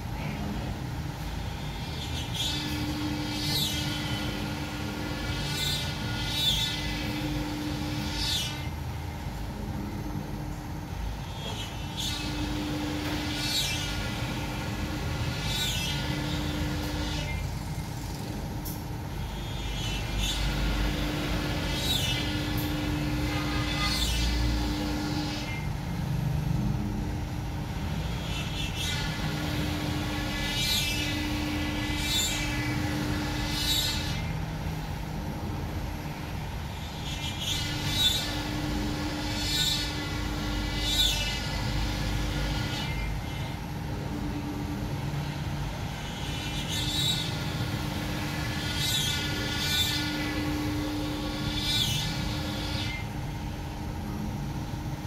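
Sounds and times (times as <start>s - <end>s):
cnc router whining: 0.0s - 55.0s
low machine hum: 0.0s - 55.0s.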